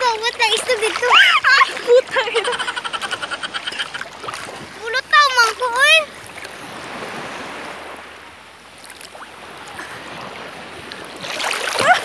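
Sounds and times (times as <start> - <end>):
water sloshing against microphone: 0.0 - 12.0.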